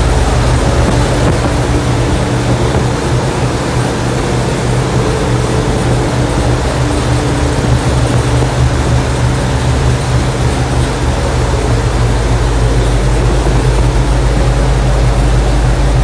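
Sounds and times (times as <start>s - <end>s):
car engine running steadily: 0.0s - 16.0s.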